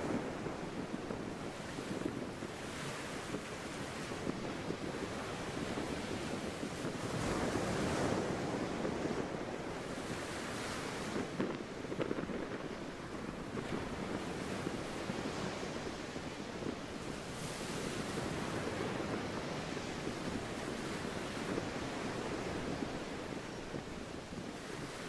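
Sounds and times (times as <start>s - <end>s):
wind blowing: 0.0s - 25.0s.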